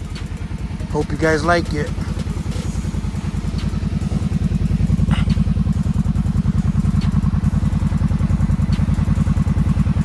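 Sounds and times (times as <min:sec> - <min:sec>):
atv engine idling: 0:00.0 - 0:10.0.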